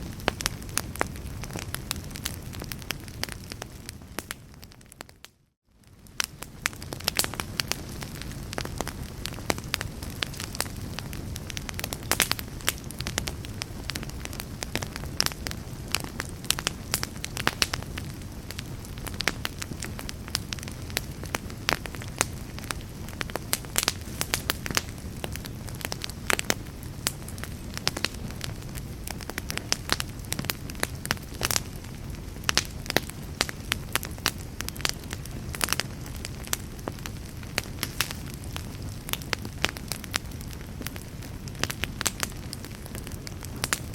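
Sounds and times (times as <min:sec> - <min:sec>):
fire pops and snaps: 0:00.0 - 0:05.4, 0:06.0 - 0:43.9
low rumble of burning logs: 0:00.0 - 0:43.9
wood fire crackling: 0:00.0 - 0:43.9.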